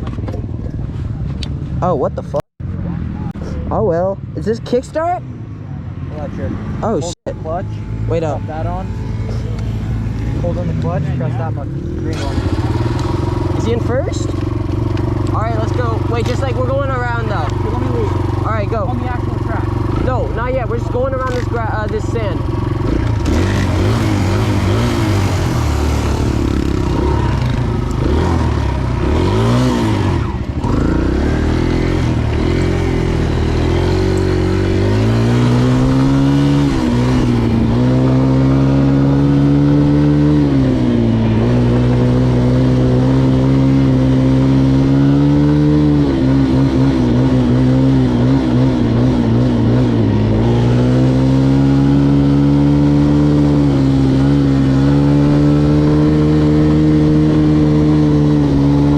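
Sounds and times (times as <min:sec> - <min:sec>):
dirt bike engine running: 0:07.0 - 0:58.9.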